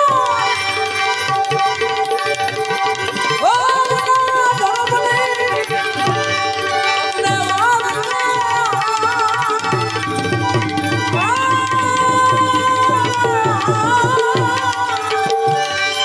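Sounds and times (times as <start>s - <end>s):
tabla playing rhythm: 0.0s - 16.0s.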